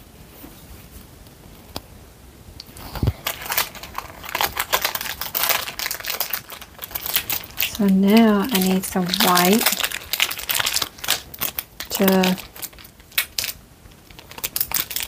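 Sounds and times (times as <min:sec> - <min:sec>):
plastic packet crinkling: 0:02.7 - 0:15.0.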